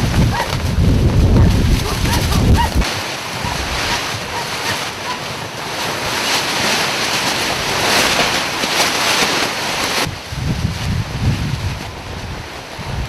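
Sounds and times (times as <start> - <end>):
strong wind hiss: 0.0 - 8.6, 9.4 - 13.0
wind gusts buffeting microphone: 0.0 - 13.0.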